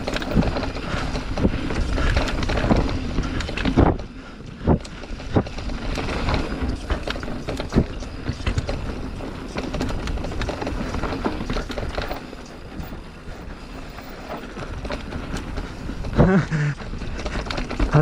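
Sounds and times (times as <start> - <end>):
mountain bike rattling on rocky trail: 0.0 - 18.0
wind noise on microphone: 0.0 - 18.0.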